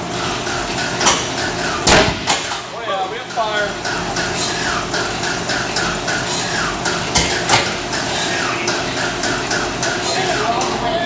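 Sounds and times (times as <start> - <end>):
radial airplane engine idling: 0.0 - 11.0.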